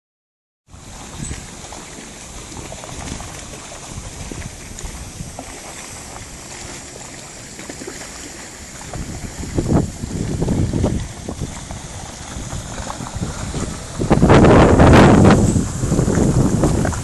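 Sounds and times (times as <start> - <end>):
rushing water: 0.7 - 17.0
water wheel turning: 0.7 - 17.0.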